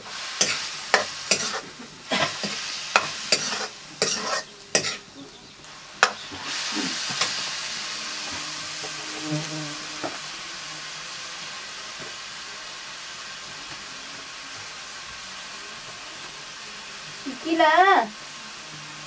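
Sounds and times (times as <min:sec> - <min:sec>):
mushrooms sizzling in a wok: 0:00.0 - 0:19.0.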